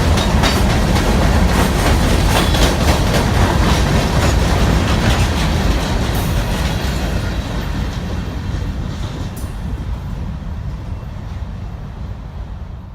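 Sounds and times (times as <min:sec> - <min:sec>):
freight train rumbling on rails: 0:00.0 - 0:12.9.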